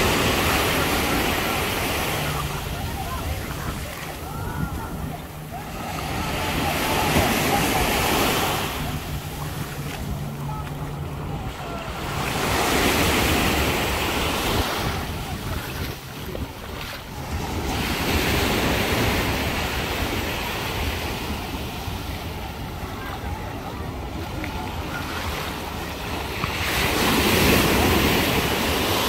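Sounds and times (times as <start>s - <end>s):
wind rumbling on microphone: 0.0s - 12.3s, 12.9s - 25.0s
small waves breaking on shore: 0.0s - 29.0s.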